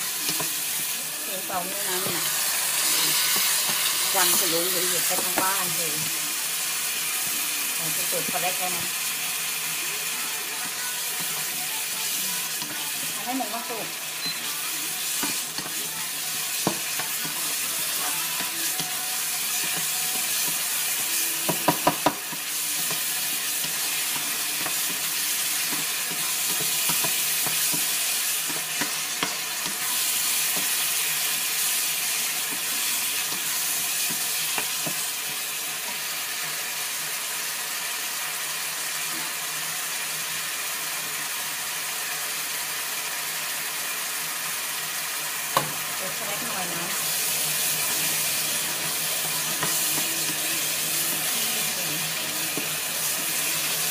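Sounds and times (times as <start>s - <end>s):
meat sizzling in a pan: 0.0s - 53.9s.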